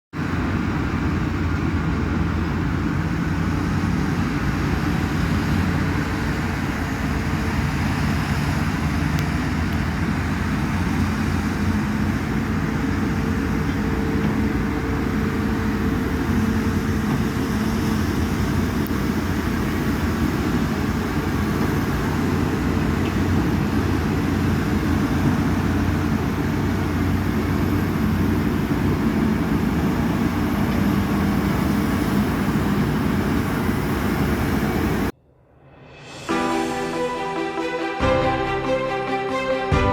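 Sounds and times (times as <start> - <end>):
excavator diesel engine running: 0.2 - 35.1.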